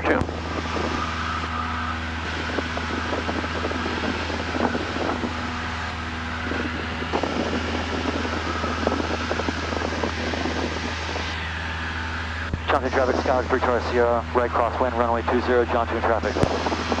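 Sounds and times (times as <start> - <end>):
faint crackles: 0.0 - 17.0
light aircraft engine drone: 0.0 - 17.0.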